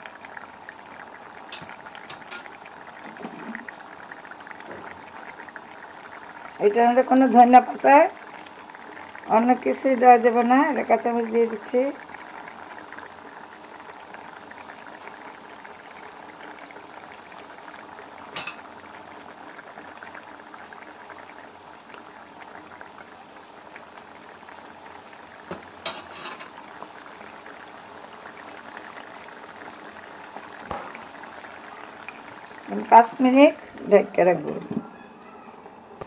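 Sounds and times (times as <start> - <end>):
curry bubbling in a pan: 0.0 - 35.0.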